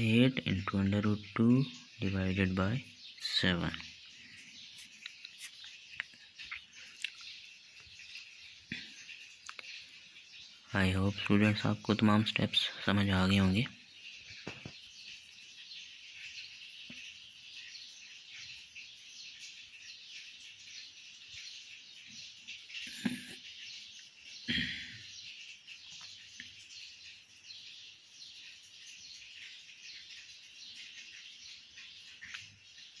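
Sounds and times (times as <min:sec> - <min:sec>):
faint birds chirping: 0:00.0 - 0:33.0.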